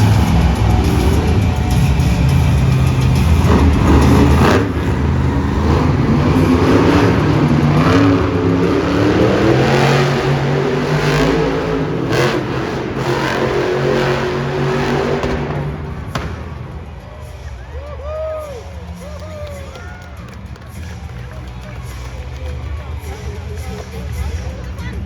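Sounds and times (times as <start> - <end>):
monster truck engine revving: 0.0 - 24.9.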